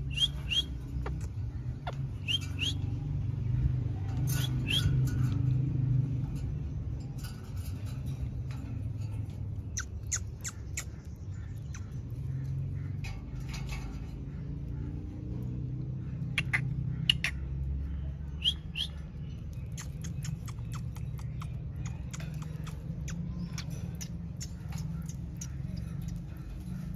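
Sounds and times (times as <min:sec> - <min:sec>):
parakeet chirps and squawks: 0:00.0 - 0:05.3, 0:07.3 - 0:26.9.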